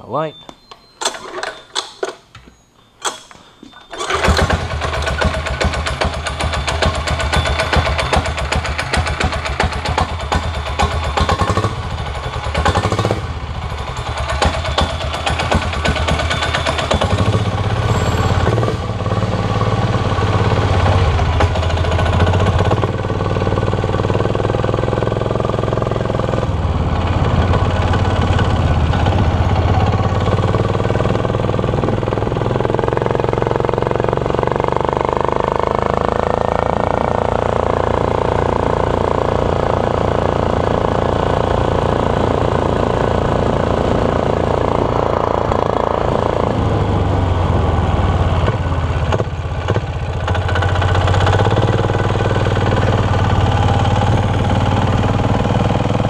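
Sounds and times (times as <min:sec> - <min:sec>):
diesel engine revving: 0:03.8 - 0:56.0.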